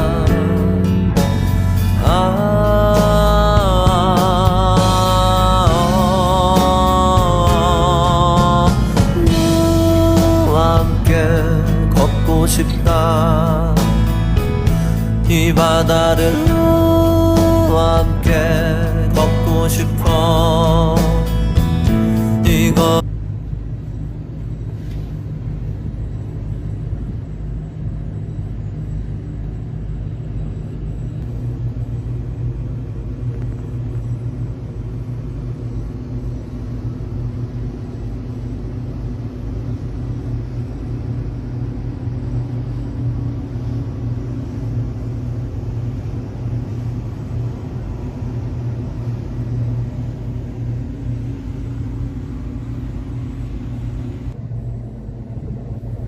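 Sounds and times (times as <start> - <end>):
vehicle rumble in motion: 0.0 - 56.0.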